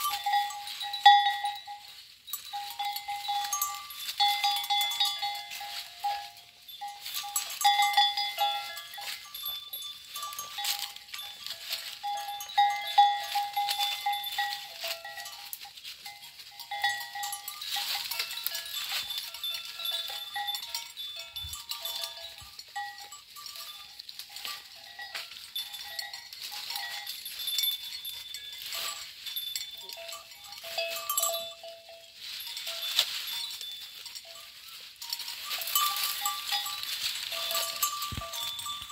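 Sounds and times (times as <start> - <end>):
goats chewing: 0.0 - 38.9
leaves and twigs rustling: 0.0 - 38.9.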